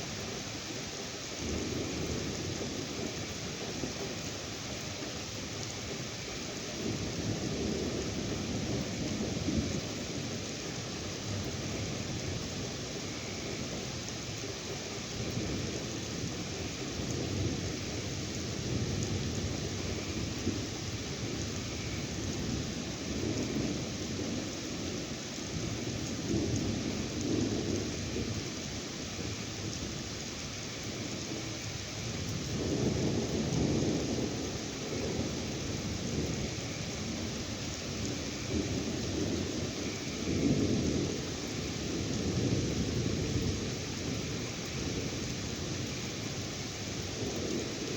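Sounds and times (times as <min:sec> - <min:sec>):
rain falling: 0:00.0 - 0:47.9
thunder rumbling: 0:05.8 - 0:14.0, 0:14.6 - 0:47.9.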